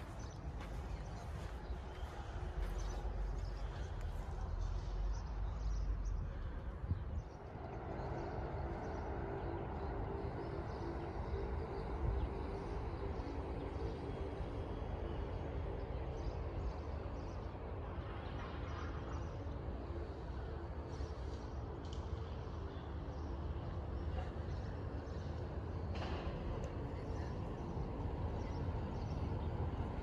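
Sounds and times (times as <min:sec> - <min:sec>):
distant engine hum: 0:00.0 - 0:30.0
wind rumbling on microphone: 0:00.0 - 0:30.0.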